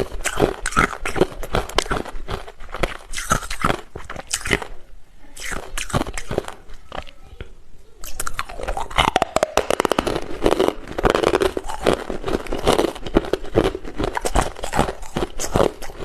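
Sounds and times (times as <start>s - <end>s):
ice being chewed: 0.0s - 4.8s, 5.4s - 7.1s, 8.0s - 16.0s.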